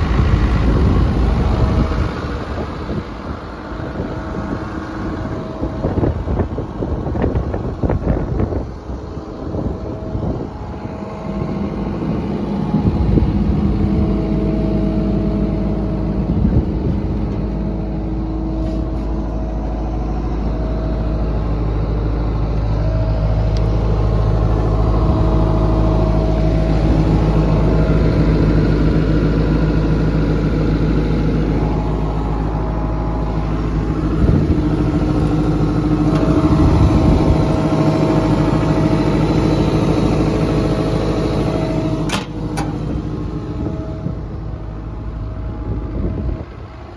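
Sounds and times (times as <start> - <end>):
diesel excavator engine idling: 0.0 - 46.9.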